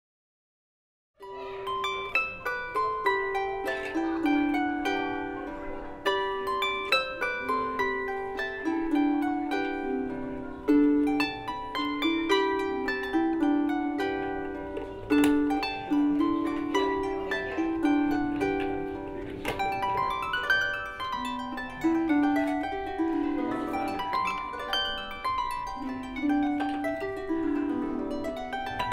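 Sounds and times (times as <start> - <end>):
solo harp music: 1.2 - 28.9.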